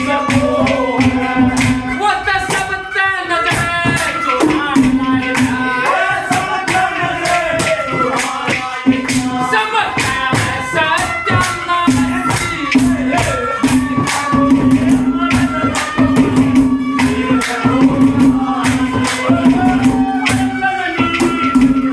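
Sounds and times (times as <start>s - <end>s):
jingling percussion: 0.0s - 21.9s.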